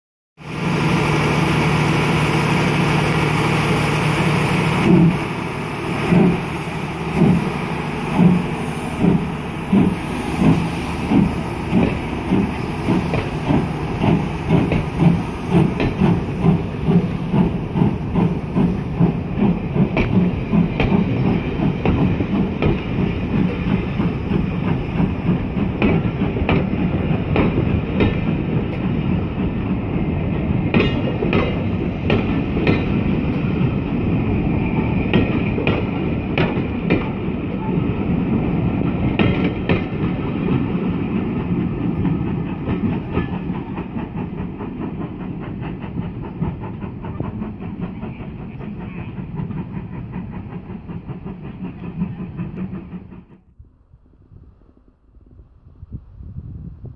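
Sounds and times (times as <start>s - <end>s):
steam hissing: 0.4s - 36.8s, 37.8s - 53.2s
steam locomotive chuffing: 0.4s - 53.5s
train wheels clicking on rail joints: 2.1s - 53.5s.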